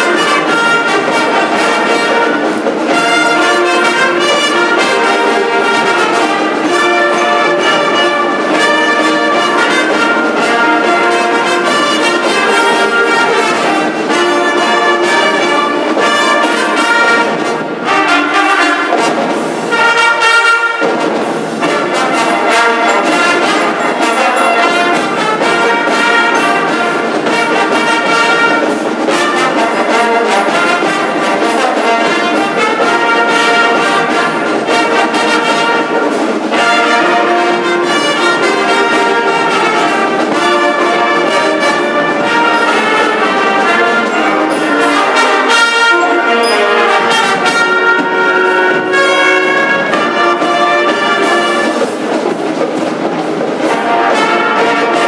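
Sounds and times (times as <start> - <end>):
marching band playing: 0.0 - 55.0.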